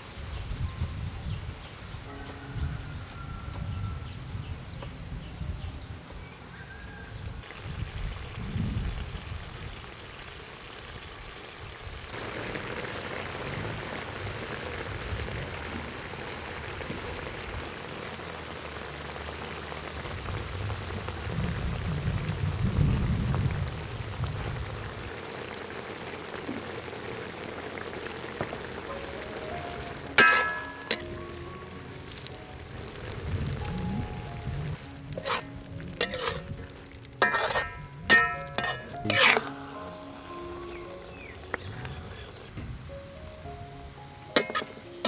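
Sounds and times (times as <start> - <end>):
shrimp sizzling in a wok: 2.9 - 3.9, 6.2 - 41.6, 42.7 - 45.0.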